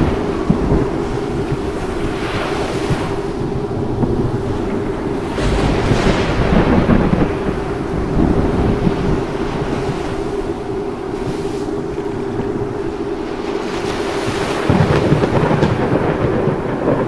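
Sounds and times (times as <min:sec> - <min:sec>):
rolling thunder: 0:00.0 - 0:17.0
steady rain: 0:00.0 - 0:17.0.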